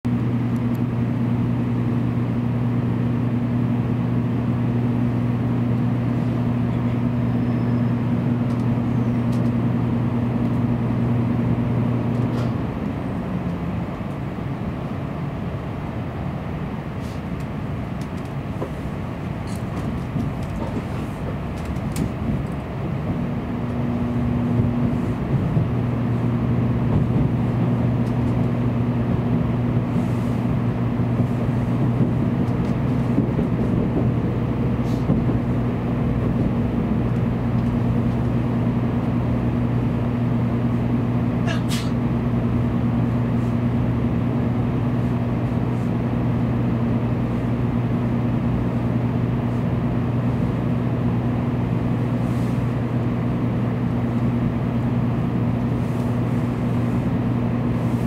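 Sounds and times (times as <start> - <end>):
low hum: 0.1 - 58.0
train running rumble: 0.1 - 58.0.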